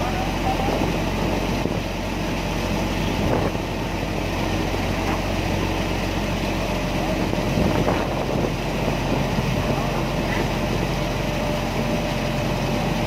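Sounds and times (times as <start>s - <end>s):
ferry engine droning: 0.0s - 13.0s.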